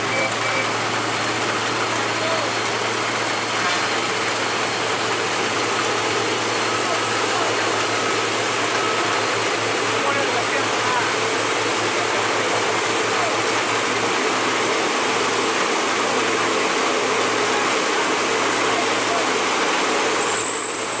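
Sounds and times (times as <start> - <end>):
rain hissing on road: 0.0 - 21.0
vehicle engine running: 0.0 - 21.0.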